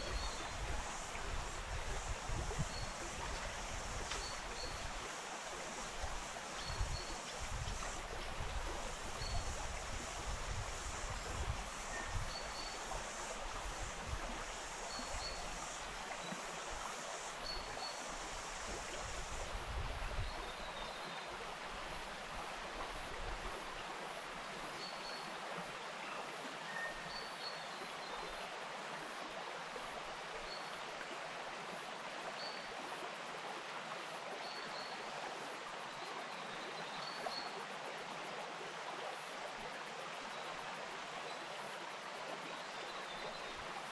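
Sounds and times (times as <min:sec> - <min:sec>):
stream flowing: 0:00.0 - 0:43.9.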